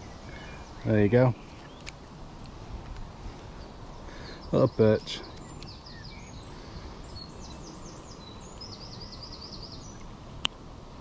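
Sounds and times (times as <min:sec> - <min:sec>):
outdoor background hiss: 0:00.0 - 0:11.0
songbird singing: 0:00.0 - 0:11.0.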